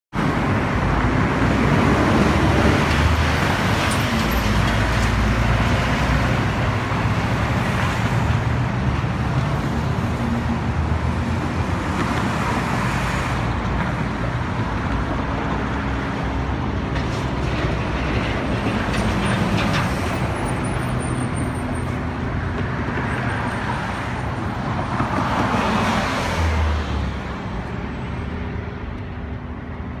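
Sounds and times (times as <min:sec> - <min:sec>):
cars and buses passing: 0:00.1 - 0:30.0.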